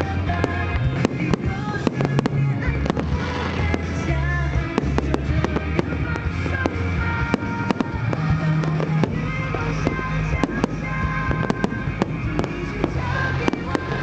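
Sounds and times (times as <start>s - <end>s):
fireworks bangs and pops: 0.0s - 14.0s
music with heavy bass: 0.0s - 14.0s.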